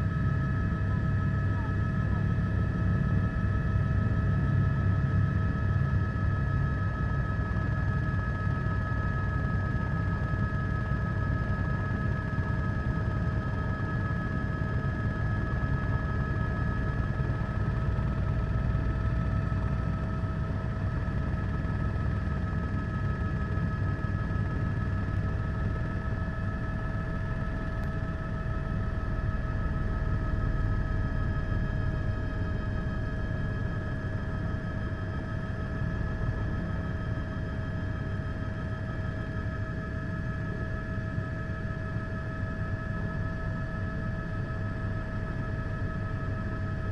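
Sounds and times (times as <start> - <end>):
helicopter high whine: 0.0 - 46.9
helicopter rumble: 0.0 - 46.9.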